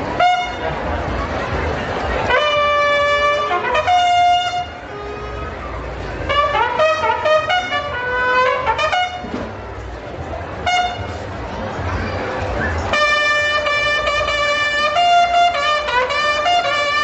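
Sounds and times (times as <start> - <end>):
marching band brass horns: 0.0 - 11.4, 12.5 - 17.0.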